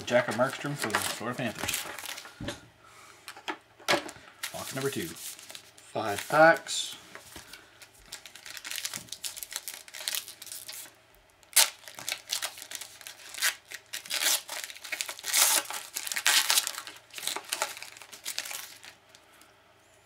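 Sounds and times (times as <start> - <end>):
foil wrapper crinkling: 0.0 - 2.4, 4.4 - 19.2.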